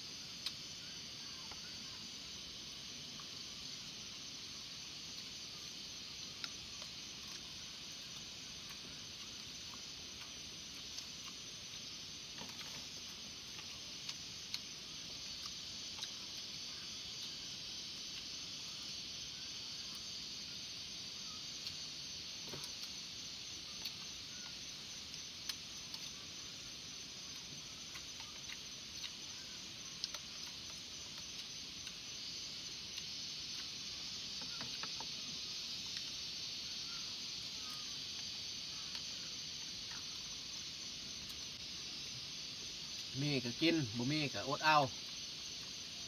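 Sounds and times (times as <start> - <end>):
insect chorus: 0.0 - 46.0.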